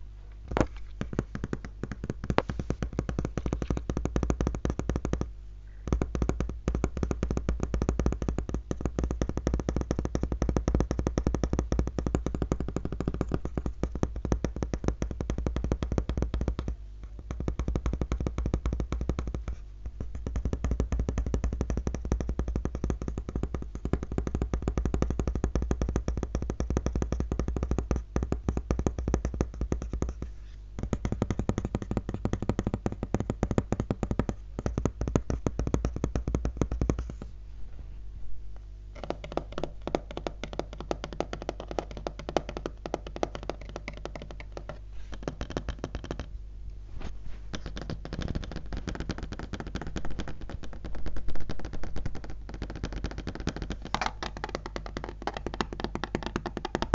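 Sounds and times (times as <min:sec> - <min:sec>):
fingers tapping on laptop keys: 0:00.5 - 0:05.3, 0:05.9 - 0:37.3, 0:39.0 - 0:46.3, 0:47.5 - 0:56.9.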